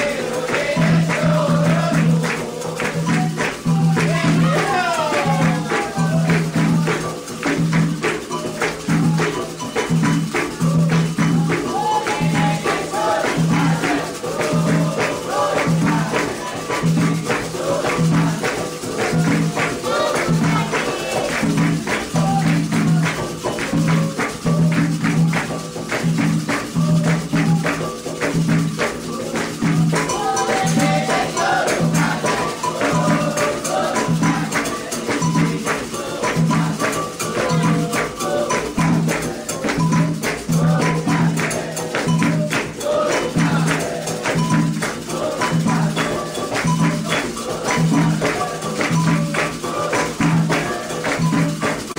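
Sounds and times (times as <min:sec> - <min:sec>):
hand drums beating: 0:00.0 - 0:51.9
shaken and struck percussion: 0:00.0 - 0:51.9
voices singing a chant: 0:00.0 - 0:51.9.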